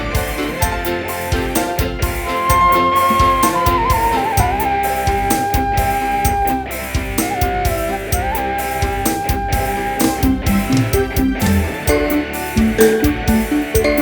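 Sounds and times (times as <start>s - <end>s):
bass: 0.0s - 14.0s
drum hits: 0.0s - 14.0s
live band lead melody: 0.0s - 14.0s.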